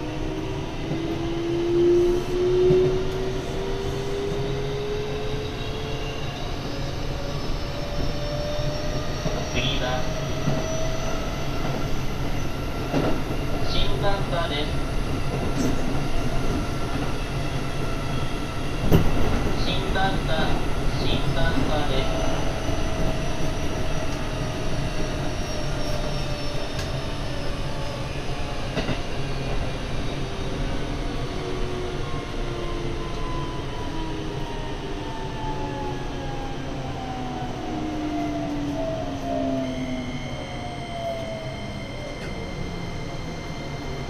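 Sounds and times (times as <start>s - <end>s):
rail and wheel rumble: 0.0s - 44.0s.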